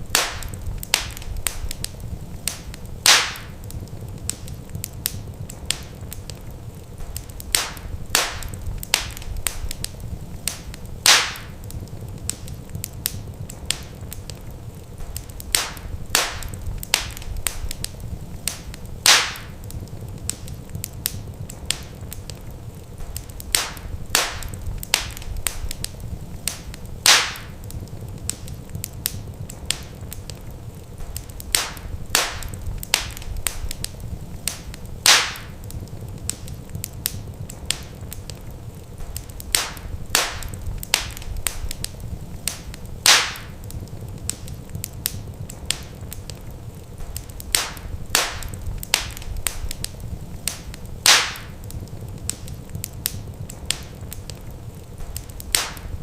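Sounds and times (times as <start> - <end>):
flames low rumble: 0.0 - 56.0
wood fire crackling: 0.0 - 56.0.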